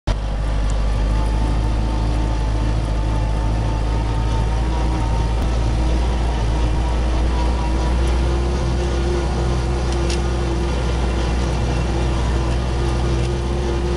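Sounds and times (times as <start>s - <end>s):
tractor engine droning: 0.1s - 13.9s.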